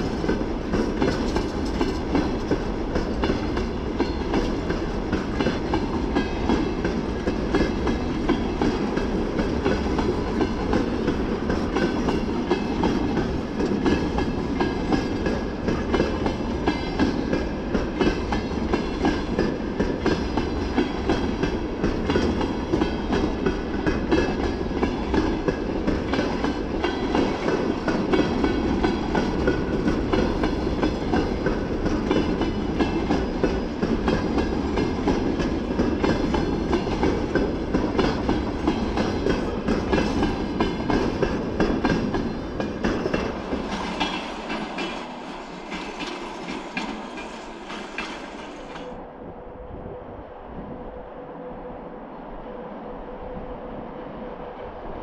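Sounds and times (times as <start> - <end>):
train wheels clattering over rail joints: 0.0 - 49.0.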